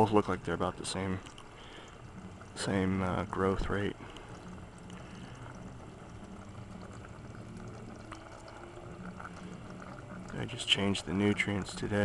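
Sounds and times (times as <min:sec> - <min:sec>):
faint low hum: 0:00.0 - 0:12.0
water trickling and bubbling: 0:00.0 - 0:12.0.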